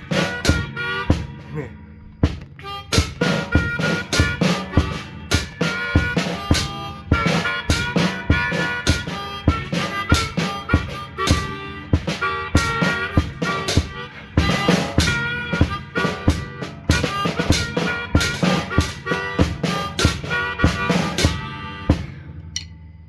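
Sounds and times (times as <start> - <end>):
blues harmonica: 0.0 - 22.5
steady drum beat: 0.0 - 22.7.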